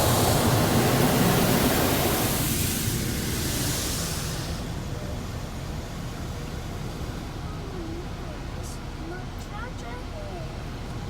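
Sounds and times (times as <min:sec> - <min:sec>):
car wash water jets rushing: 0:00.0 - 0:09.1.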